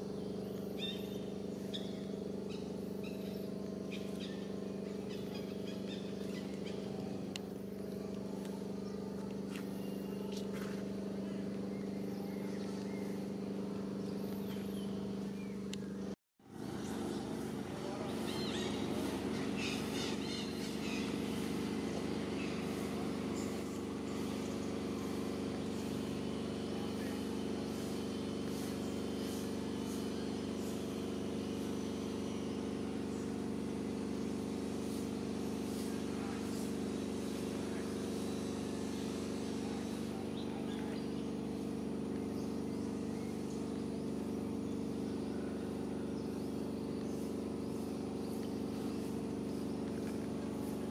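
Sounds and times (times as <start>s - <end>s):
birds chirping: 0.0s - 50.9s
steady engine hum: 0.0s - 50.9s.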